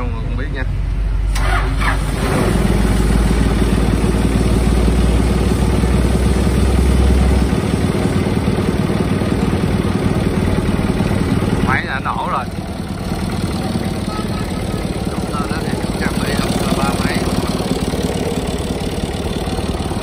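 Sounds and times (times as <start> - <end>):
diesel tractor engine idling: 0.0 - 20.0.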